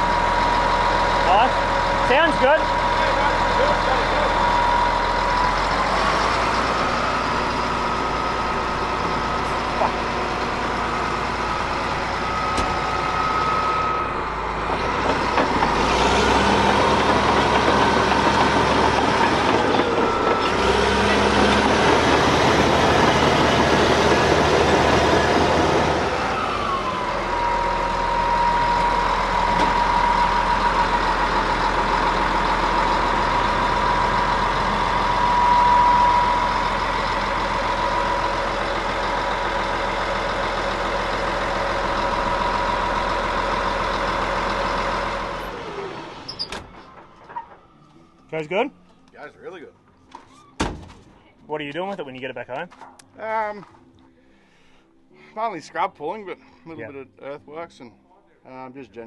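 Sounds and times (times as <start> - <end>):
bulldozer diesel engine whining: 0.0 - 50.6.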